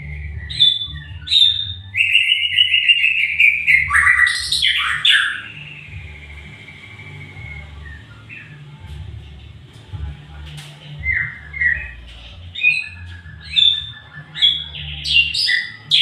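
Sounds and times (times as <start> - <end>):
bird singing whistled phrases: 0.0 - 8.8, 11.0 - 16.0.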